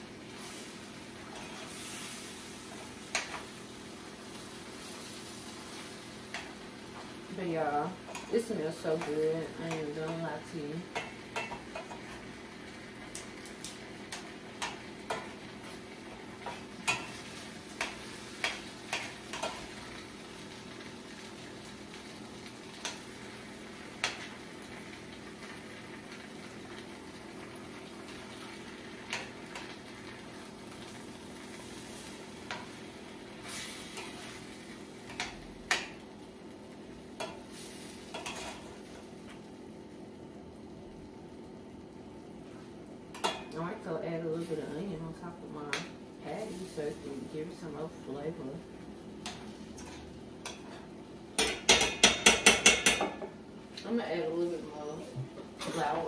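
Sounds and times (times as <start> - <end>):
gravy sizzling in pan: 0.0 - 56.0.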